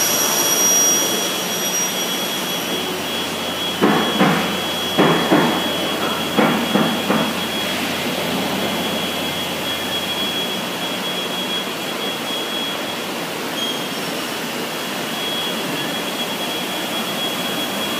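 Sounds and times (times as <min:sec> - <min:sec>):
router machine running with whine: 0:00.0 - 0:17.9.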